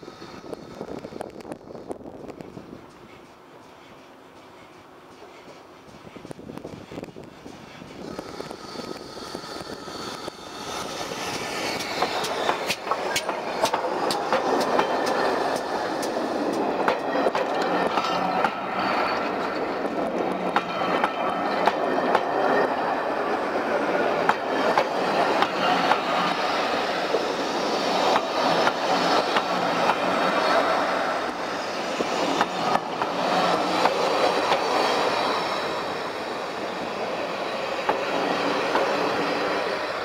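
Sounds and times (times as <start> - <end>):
steam train passing: 0.0 - 40.0.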